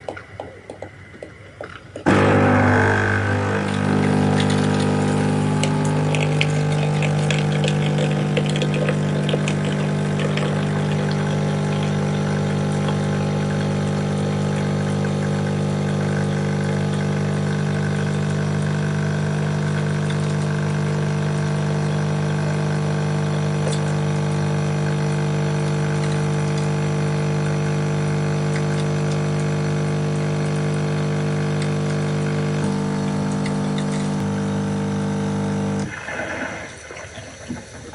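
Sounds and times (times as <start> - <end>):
coffee machine pump humming: 0.0 - 37.9
water crackling and gurgling: 0.0 - 37.9.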